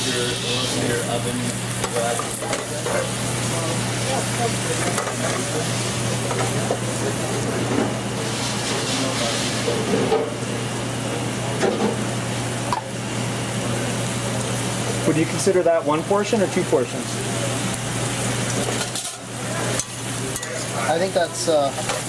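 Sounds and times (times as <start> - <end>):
pasta sizzling in a pan: 0.0 - 22.0.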